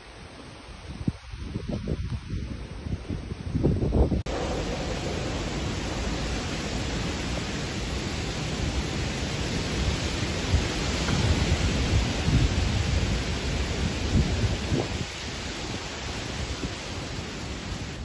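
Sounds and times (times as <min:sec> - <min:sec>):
wind and rain hiss: 0:00.0 - 0:18.0
wind buffeting microphone: 0:00.7 - 0:18.0.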